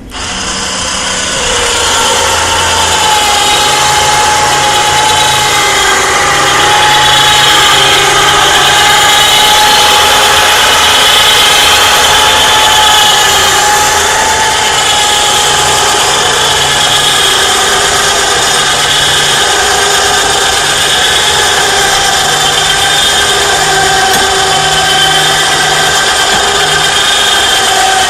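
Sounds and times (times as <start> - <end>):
winch motor whining: 0.0 - 28.0.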